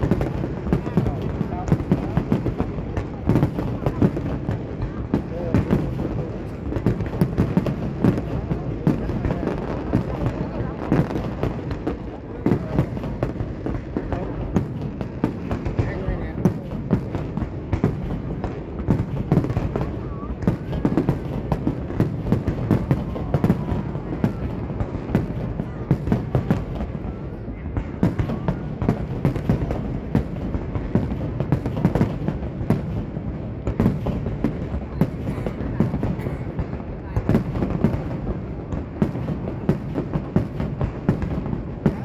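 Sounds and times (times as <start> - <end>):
fireworks booms and crackles: 0.0 - 42.0.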